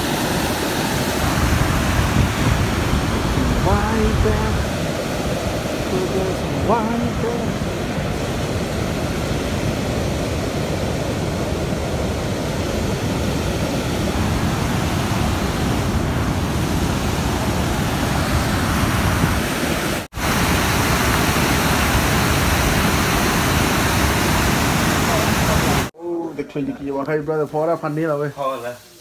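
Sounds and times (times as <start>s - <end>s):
water rushing over a dam: 0.0s - 25.9s.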